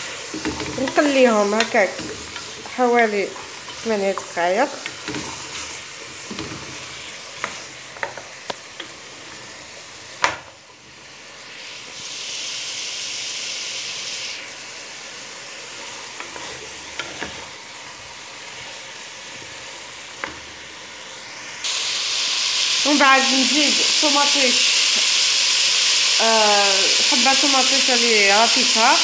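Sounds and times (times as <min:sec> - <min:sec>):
chicken and vegetables sizzling: 0:00.0 - 0:29.0.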